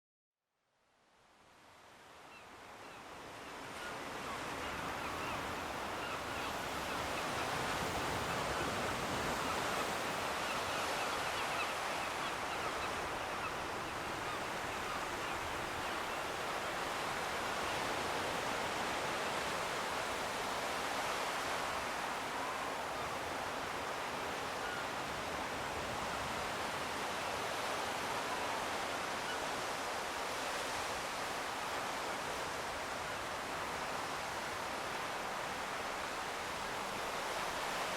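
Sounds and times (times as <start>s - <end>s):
distant surf: 2.8s - 37.9s.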